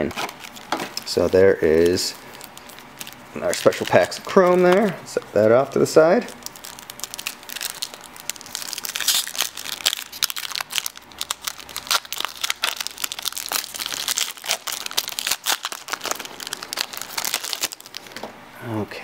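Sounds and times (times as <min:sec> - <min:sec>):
foil wrapper crinkling and tearing: 0:00.0 - 0:18.3.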